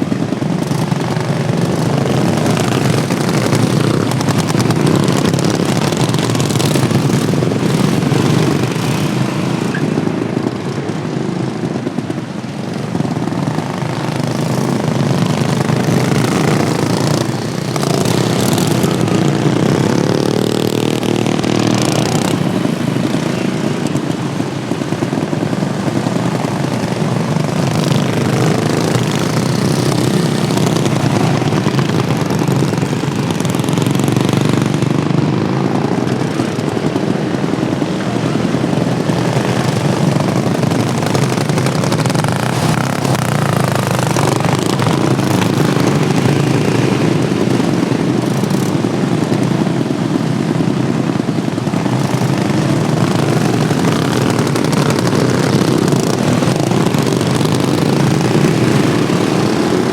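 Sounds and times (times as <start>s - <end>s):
racing lawn mower engines: 0.0s - 59.9s.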